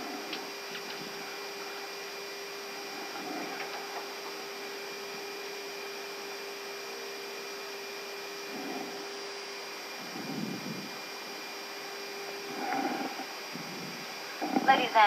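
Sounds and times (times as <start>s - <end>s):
constant equipment hum: 0.0s - 15.0s
ventilation fan hiss: 0.0s - 15.0s.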